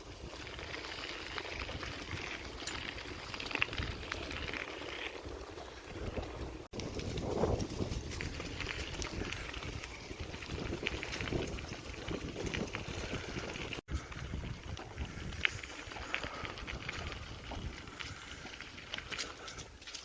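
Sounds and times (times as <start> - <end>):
wind rumble on microphone: 0.0 - 19.5
bike tyres crunching on trail: 0.0 - 20.0.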